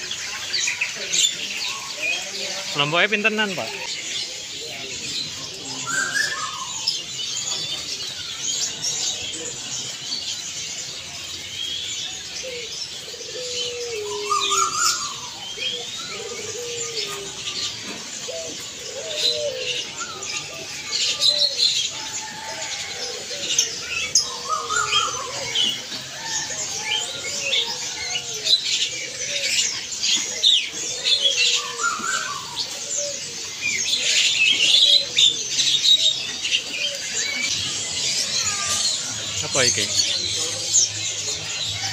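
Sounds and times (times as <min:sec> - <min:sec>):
caged birds chirping: 0:00.0 - 0:41.9
lower curved bird calls: 0:00.0 - 0:41.9.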